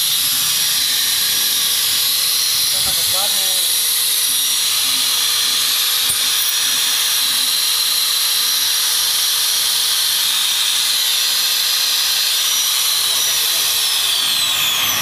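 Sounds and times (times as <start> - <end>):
angle grinder whine: 0.0 - 15.0.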